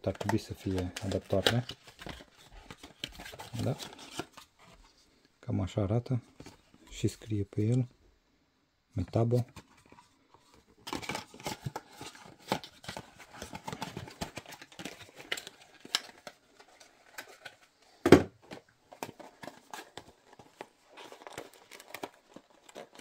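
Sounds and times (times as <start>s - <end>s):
packaging crinkling and rustling: 0.0s - 5.0s, 9.2s - 23.0s.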